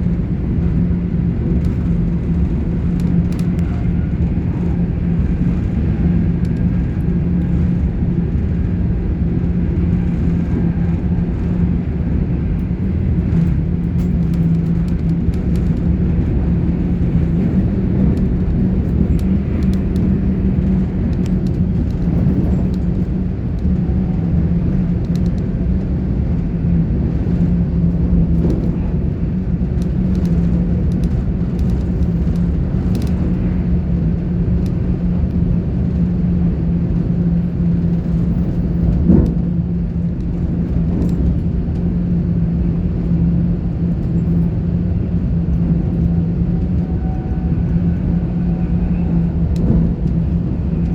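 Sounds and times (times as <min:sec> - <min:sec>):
constant hum: 0:00.0 - 0:50.9
train wheels rumbling on rail: 0:00.0 - 0:50.9.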